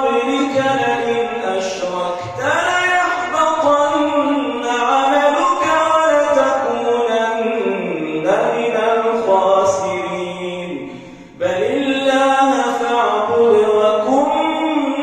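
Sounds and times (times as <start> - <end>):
man reciting melodically into microphone: 0.0 - 15.0.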